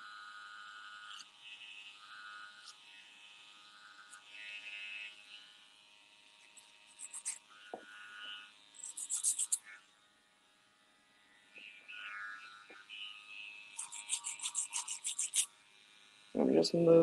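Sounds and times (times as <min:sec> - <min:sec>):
clipper blade cutting hair: 0:00.0 - 0:09.9, 0:11.4 - 0:17.0
electric hair clipper buzzing: 0:00.0 - 0:17.0.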